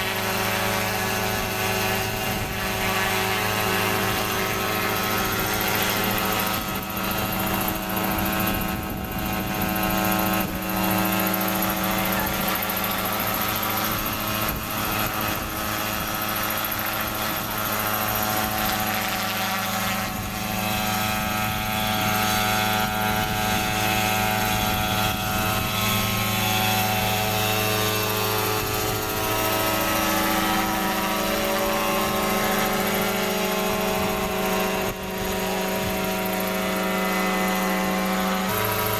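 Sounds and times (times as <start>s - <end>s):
model helicopter engine and rotor: 0.0s - 38.9s.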